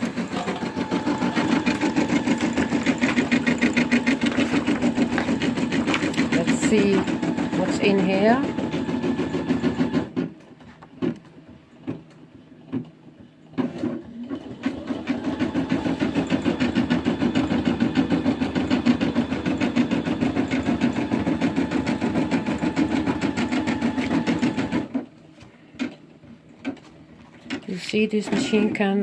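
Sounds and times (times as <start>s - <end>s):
embroidery machine stitching: 0.0s - 10.3s, 13.5s - 25.1s, 27.4s - 29.0s.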